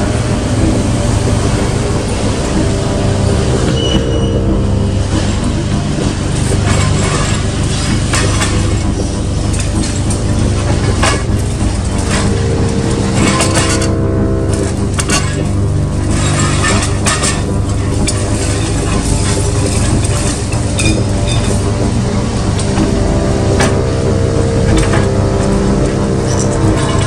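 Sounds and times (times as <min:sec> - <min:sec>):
excavator diesel engine under load: 0:00.0 - 0:27.0.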